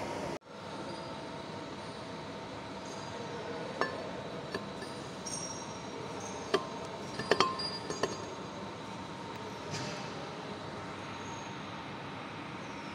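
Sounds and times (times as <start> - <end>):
steady machine hum: 0.0 - 12.9.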